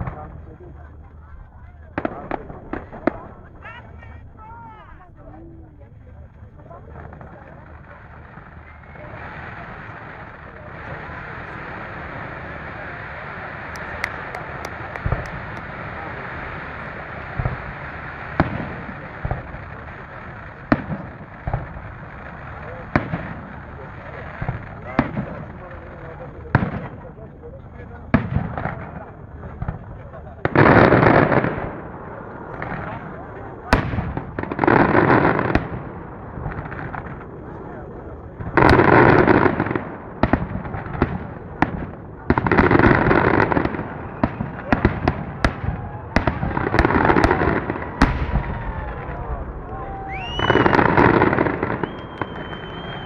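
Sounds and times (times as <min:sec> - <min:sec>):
fireworks bangs: 0:00.0 - 0:04.9, 0:06.4 - 0:27.1, 0:27.8 - 0:53.0.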